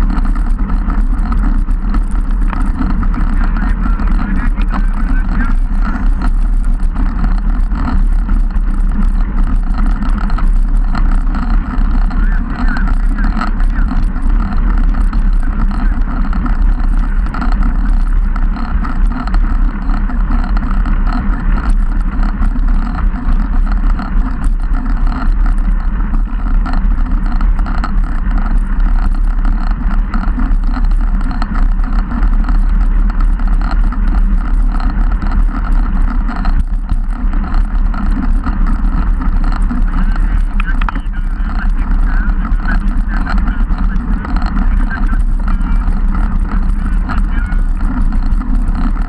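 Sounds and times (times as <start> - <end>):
road rumble: 0.0 - 49.0.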